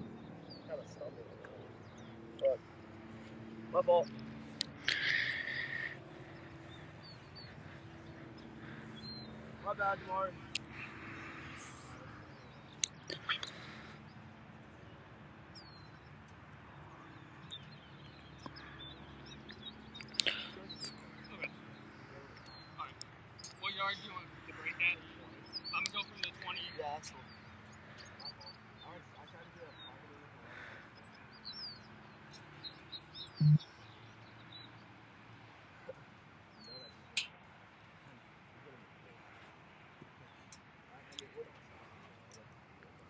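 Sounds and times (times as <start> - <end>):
faint outdoor ambience: 0.0 - 43.0
small birds chirping: 0.0 - 43.0.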